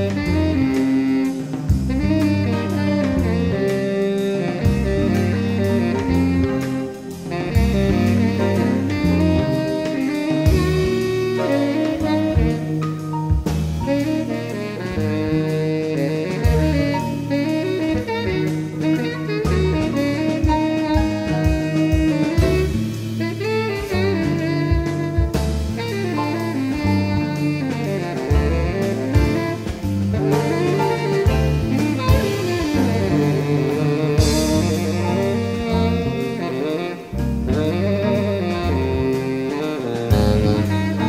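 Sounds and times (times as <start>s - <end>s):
bass line: 0.0s - 41.0s
drum kit: 0.0s - 41.0s
saxophone melody: 0.0s - 41.0s.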